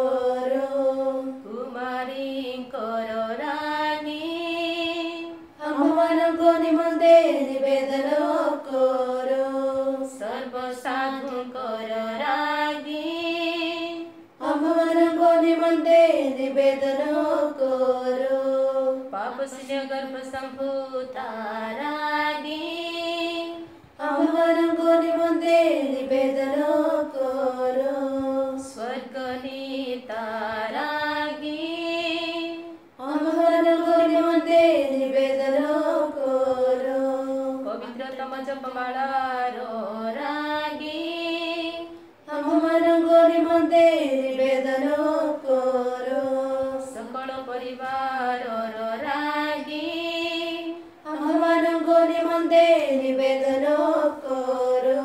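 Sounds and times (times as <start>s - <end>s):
voices singing a chant-like litany: 0.0s - 55.0s.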